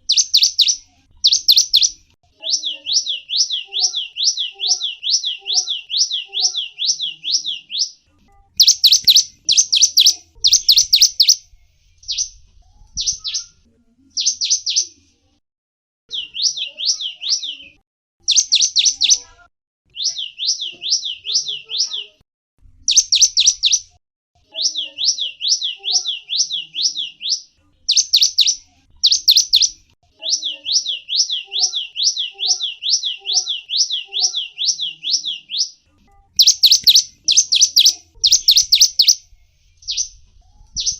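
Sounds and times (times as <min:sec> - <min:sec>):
songbird chirping: 0:00.0 - 0:15.1, 0:16.1 - 0:22.2, 0:22.8 - 0:40.9.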